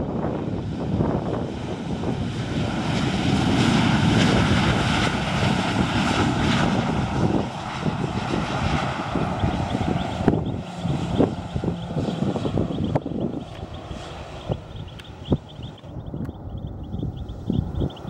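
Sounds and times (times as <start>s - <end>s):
airplane engine noise: 0.0s - 18.0s.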